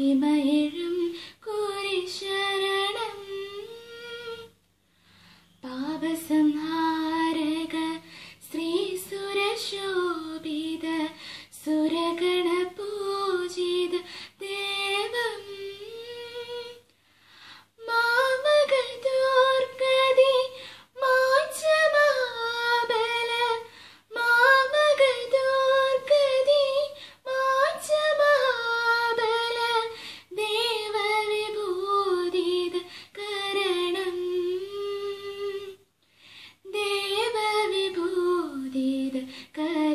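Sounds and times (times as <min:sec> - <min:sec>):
woman singing unaccompanied: 0:00.0 - 0:04.6, 0:05.6 - 0:16.9, 0:17.8 - 0:35.8, 0:36.6 - 0:39.9.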